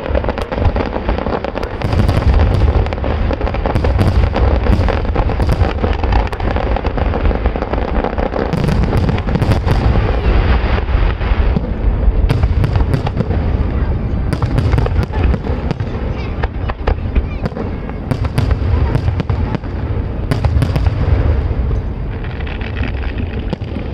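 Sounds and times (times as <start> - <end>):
fireworks booming: 0.0 - 23.9
fireworks crackling: 0.0 - 23.9.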